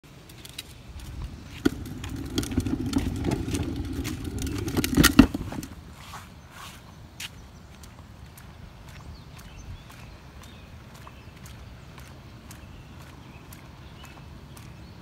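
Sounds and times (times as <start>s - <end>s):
footsteps: 0.3s - 14.7s.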